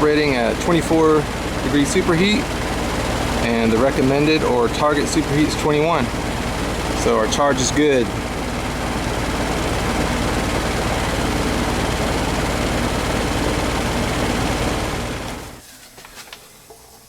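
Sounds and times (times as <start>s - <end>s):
compressor hum: 0.0s - 17.0s
condenser fan whoosh: 0.0s - 17.0s.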